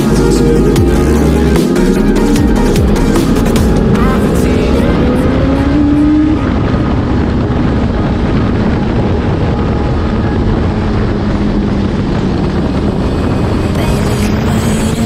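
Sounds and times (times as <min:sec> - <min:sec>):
motorcycle engine accelerating: 0:00.0 - 0:15.0
wind noise on microphone: 0:00.0 - 0:15.0.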